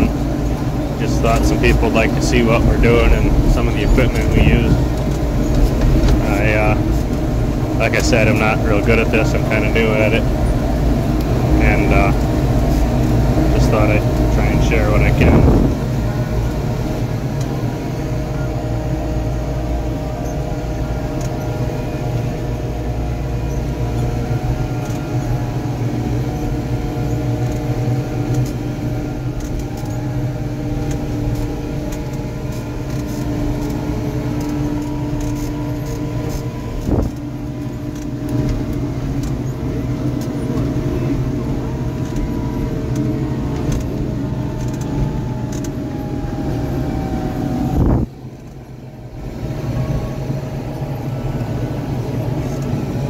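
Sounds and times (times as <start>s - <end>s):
tractor engine running under load: 0.0s - 53.0s.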